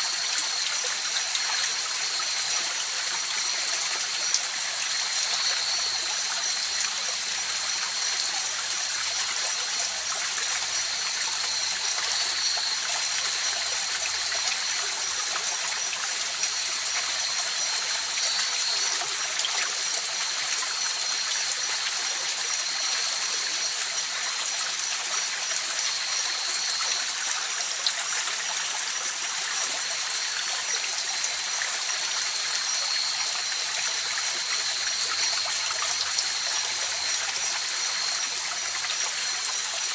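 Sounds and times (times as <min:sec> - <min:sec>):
night insects chirping: 0:00.1 - 0:39.9.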